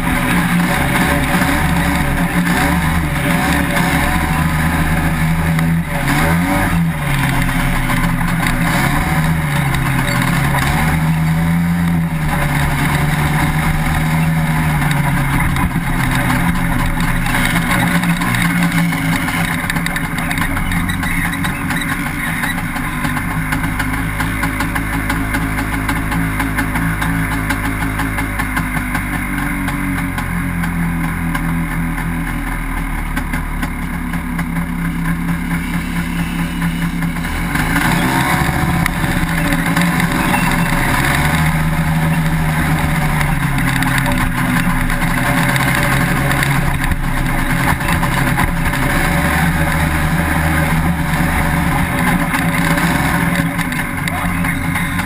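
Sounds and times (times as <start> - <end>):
engine idling and pulling away: 0.0 - 55.0.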